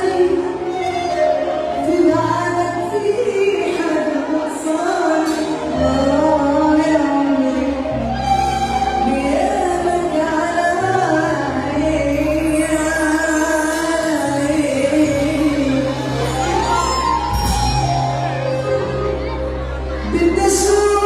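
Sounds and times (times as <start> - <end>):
band accompaniment with bass: 0.0 - 21.0
woman singing: 0.0 - 21.0.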